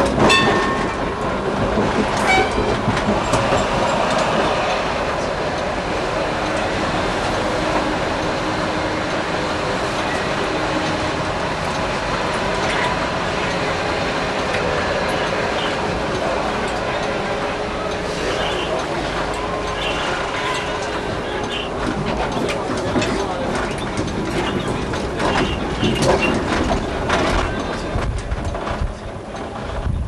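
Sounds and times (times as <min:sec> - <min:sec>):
tram rolling and motor noise: 0:00.0 - 0:30.0.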